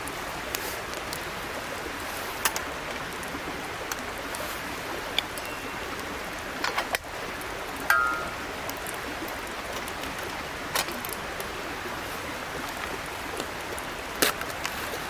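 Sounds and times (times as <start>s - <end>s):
creek babbling: 0.0s - 15.0s.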